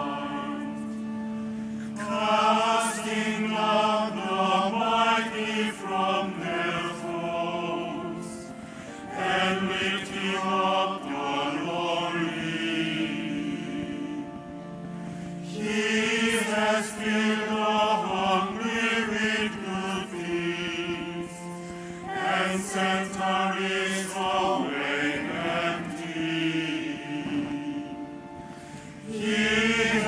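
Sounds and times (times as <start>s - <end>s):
voices chanting: 0.0s - 30.0s.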